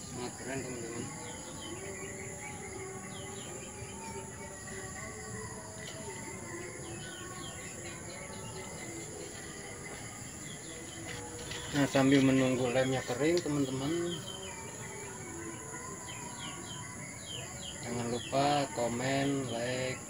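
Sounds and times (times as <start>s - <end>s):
birds chirping: 0.0s - 20.0s
insect drone: 0.0s - 20.0s.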